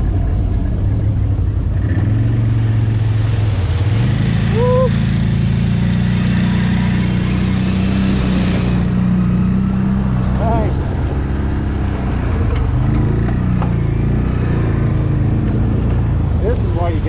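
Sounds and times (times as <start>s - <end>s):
quad engine revving: 1.7s - 17.0s.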